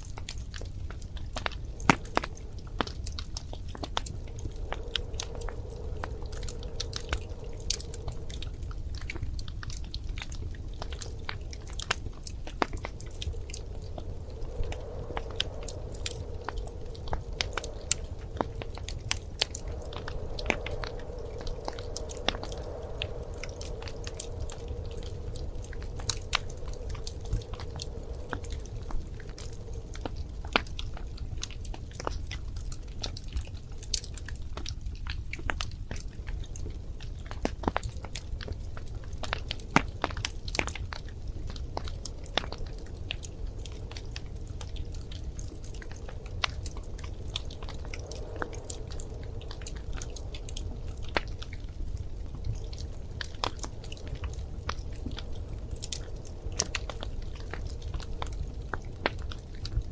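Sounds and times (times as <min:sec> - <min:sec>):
faint hum: 0:00.0 - 0:59.9
wood fire crackling: 0:00.0 - 0:59.9.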